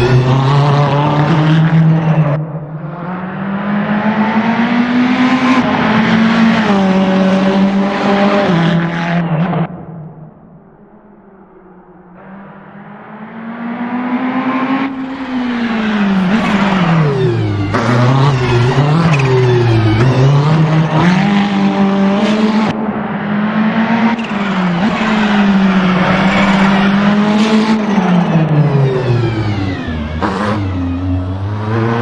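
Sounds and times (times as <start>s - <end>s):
race car engine at high revs: 0.0s - 10.4s, 11.1s - 32.0s.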